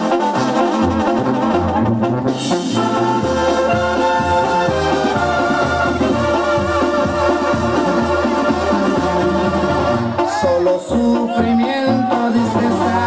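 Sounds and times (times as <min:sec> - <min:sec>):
bass line: 0:00.0 - 0:13.0
horns holding notes: 0:00.0 - 0:13.0
latin dance music: 0:00.0 - 0:13.0.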